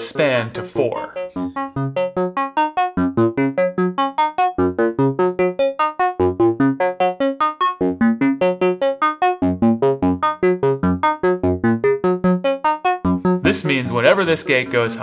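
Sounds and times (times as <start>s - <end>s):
synthesizer plucked note sequence: 0.1s - 15.0s.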